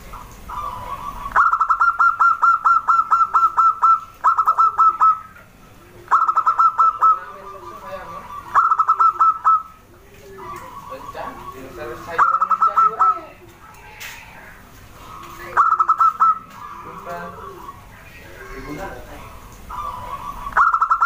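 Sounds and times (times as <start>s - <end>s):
dove calling in staccato notes: 0.0s - 21.0s.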